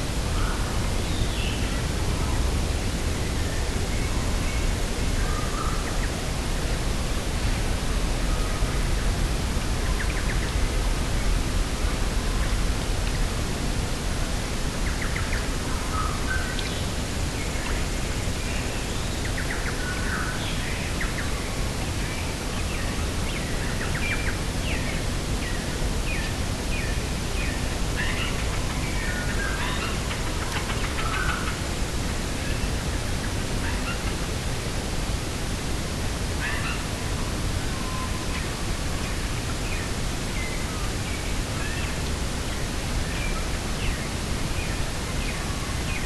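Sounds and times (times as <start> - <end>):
wind: 0.0 - 46.0.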